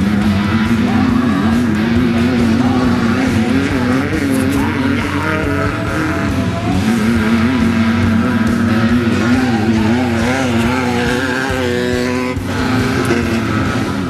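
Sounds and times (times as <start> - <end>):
buggy engine revving hard: 0.0 - 14.0.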